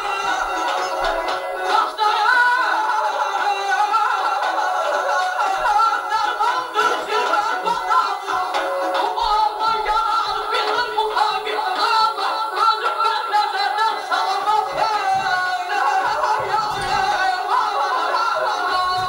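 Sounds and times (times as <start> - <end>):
man singing folk melody: 0.0 - 19.0.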